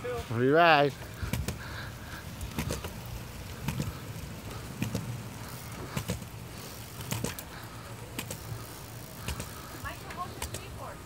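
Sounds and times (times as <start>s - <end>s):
skateboard wheels rolling on concrete: 0.0s - 11.0s
skateboard wheels clacking on joints: 0.8s - 11.0s.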